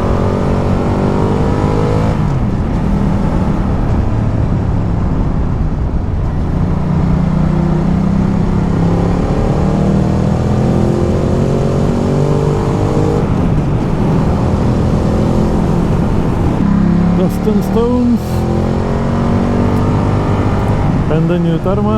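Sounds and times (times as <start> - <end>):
motorcycle engine running: 0.0 - 21.9
wind rush: 0.0 - 21.9.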